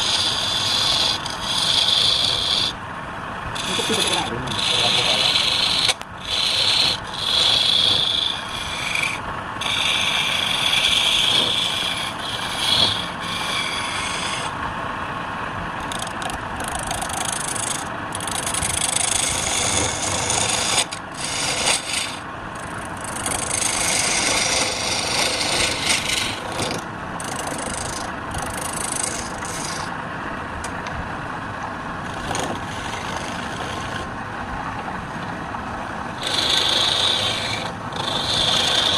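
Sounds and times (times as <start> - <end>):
lathe tool scraping spinning wood: 0.0 - 2.8, 3.5 - 14.6, 15.8 - 30.0, 32.0 - 34.2, 36.1 - 38.9.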